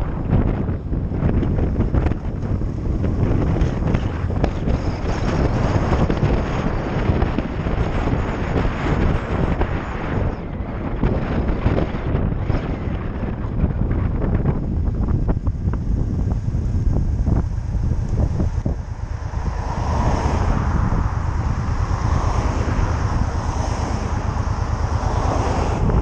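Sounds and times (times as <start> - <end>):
motorcycle engine: 0.0 - 10.4, 13.4 - 26.0
road noise: 0.0 - 26.0
wind buffeting microphone: 0.0 - 26.0.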